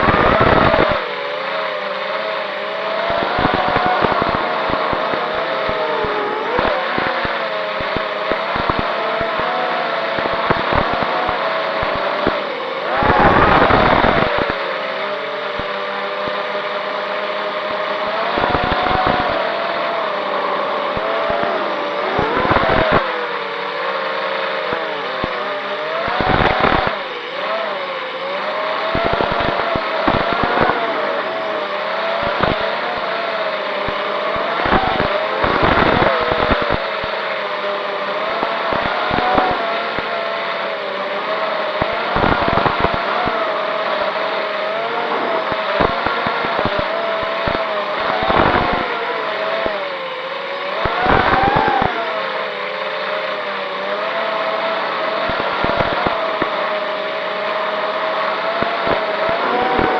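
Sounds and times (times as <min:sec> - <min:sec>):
quadcopter motors whining: 0:00.0 - 0:59.9.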